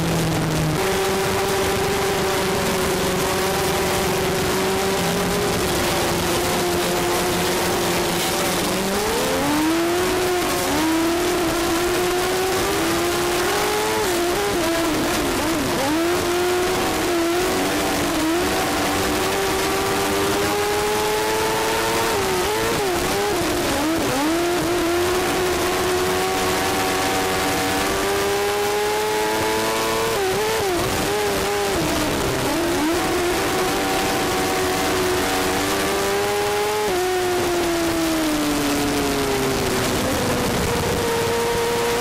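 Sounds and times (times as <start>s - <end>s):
motorcycle engine at racing speed: 0.0s - 42.0s.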